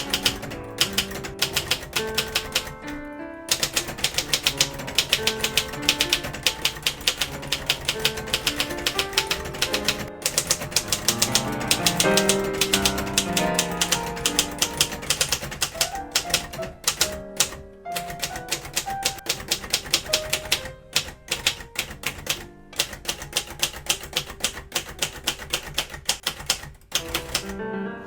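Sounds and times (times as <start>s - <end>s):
background music: 0.0s - 25.4s
typewriter typing quickly: 0.0s - 27.6s.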